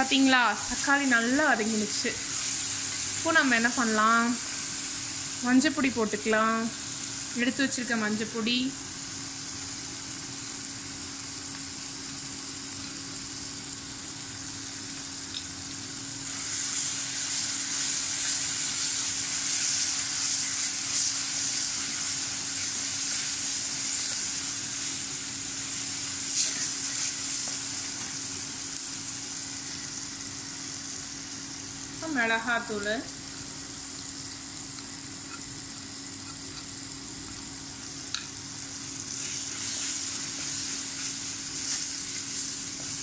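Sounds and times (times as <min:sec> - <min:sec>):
onions frying in oil: 0:00.0 - 0:43.0.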